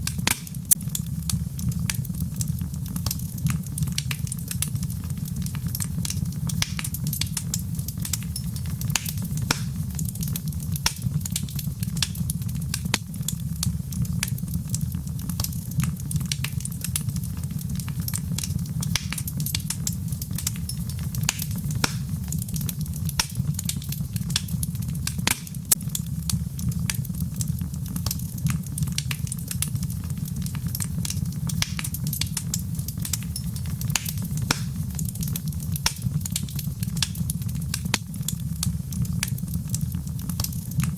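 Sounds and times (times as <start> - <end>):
fire crackling and popping: 0.0 - 40.9
fire low rumble: 0.0 - 40.9.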